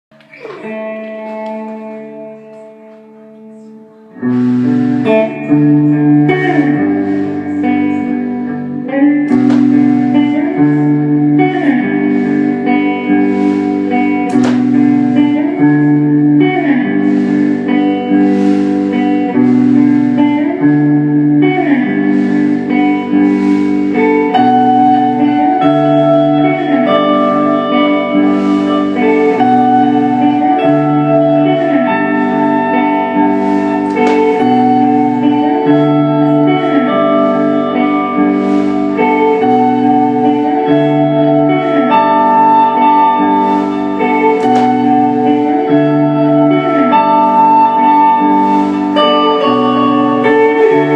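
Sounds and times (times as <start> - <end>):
electric guitar with delay: 0.0 - 50.9.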